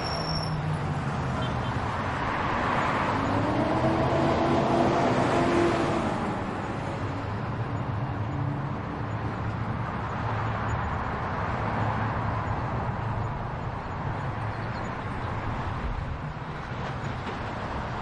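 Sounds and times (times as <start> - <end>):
passing vehicles: 0.0 - 18.0.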